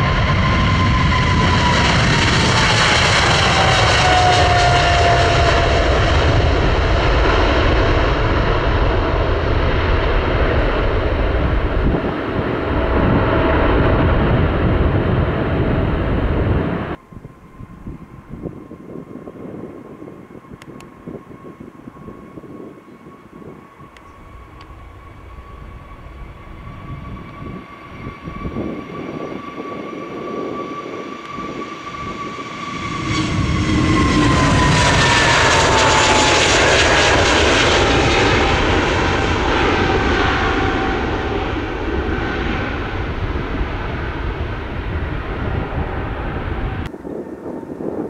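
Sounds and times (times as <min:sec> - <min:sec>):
jet engine roar: 0:00.0 - 0:48.0
jet engine whine: 0:00.0 - 0:48.0.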